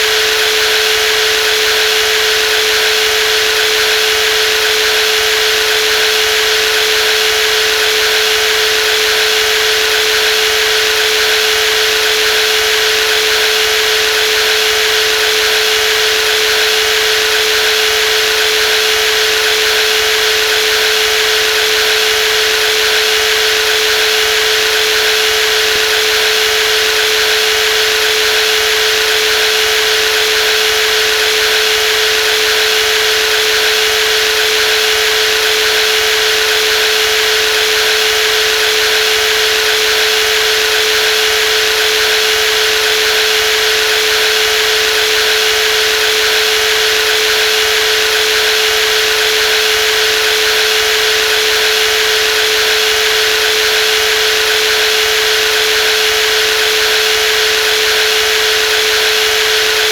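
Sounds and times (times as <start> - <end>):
electric jigsaw whining: 0.0 - 59.9.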